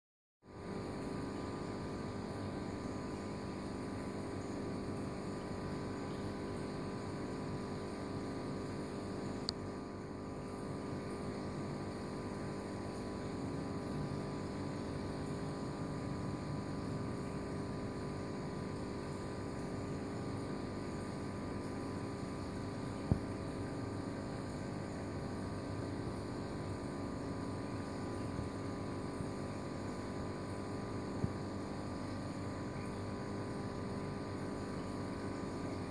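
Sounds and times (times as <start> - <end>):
air pump humming: 0.4 - 35.9.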